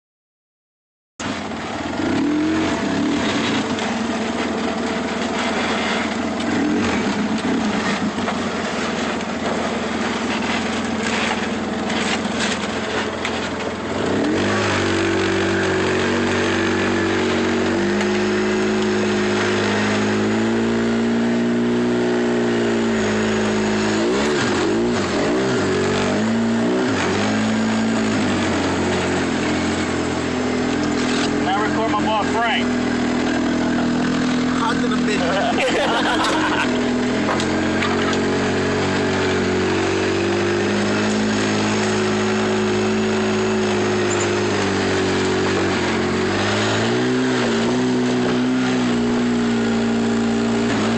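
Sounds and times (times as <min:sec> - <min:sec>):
truck engine revving: 0:01.2 - 0:50.9.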